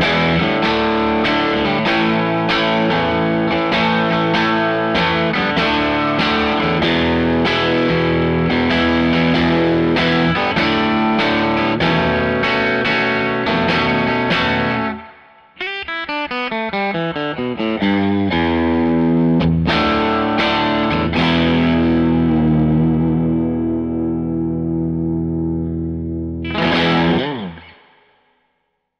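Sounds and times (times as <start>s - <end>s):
electric guitar with reverb: 0.0s - 28.3s.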